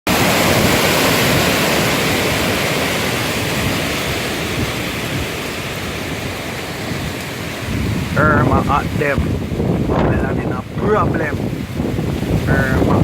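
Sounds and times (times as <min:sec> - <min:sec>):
hurricane wind: 0:00.1 - 0:13.0
surf: 0:00.1 - 0:13.0
wind buffeting microphone: 0:00.1 - 0:13.0.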